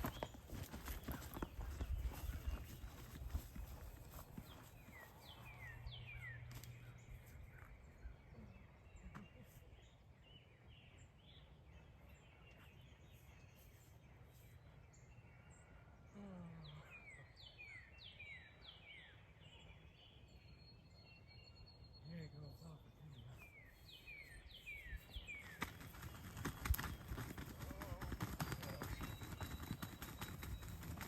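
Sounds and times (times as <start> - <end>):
faint wind: 0.0 - 31.0.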